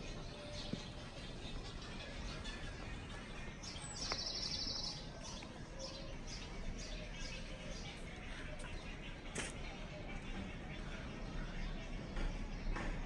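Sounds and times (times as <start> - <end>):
low outdoor background noise: 0.0 - 13.0.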